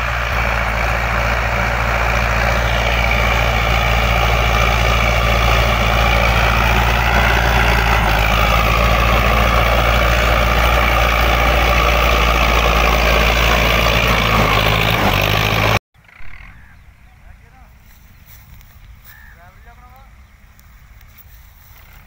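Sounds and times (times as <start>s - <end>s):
tractor diesel engine under load: 0.0s - 17.9s.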